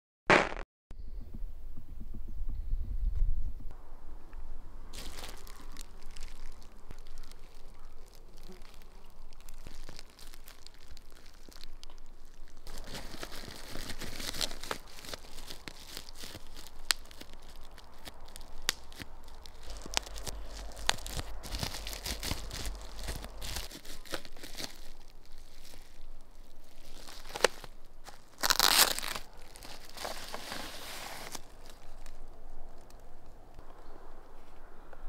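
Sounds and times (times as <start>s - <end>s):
bubble wrap cracks: 0.3s - 0.6s, 4.9s - 33.1s
bubble wrap bag crinkling: 4.9s - 33.0s.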